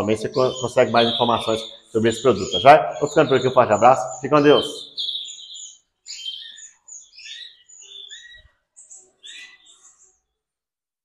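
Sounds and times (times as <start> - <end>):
canaries chirping and singing: 0.0 - 10.5.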